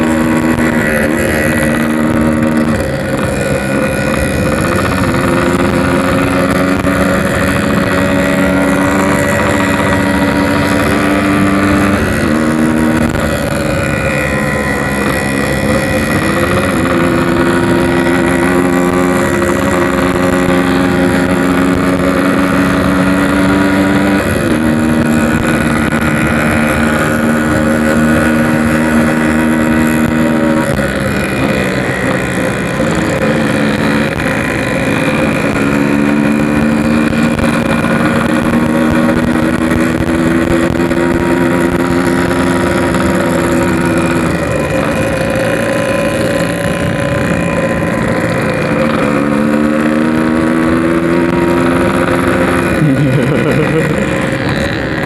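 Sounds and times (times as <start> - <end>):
motorcycle engine with gear changes: 0.0 - 55.0.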